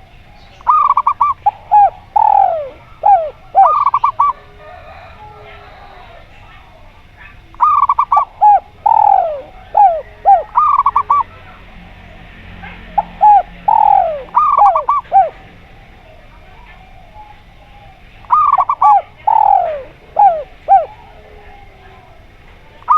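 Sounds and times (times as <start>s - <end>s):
dove cooing: 0.0s - 22.9s.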